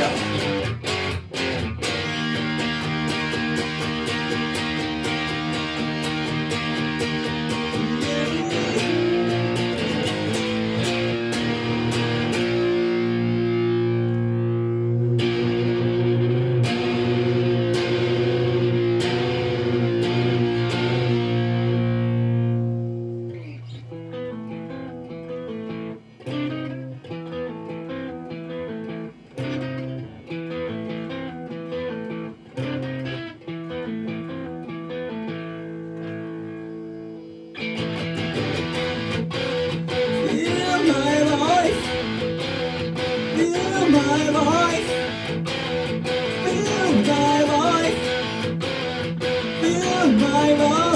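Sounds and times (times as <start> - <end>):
electric guitar through amplifier: 0.0 - 50.9.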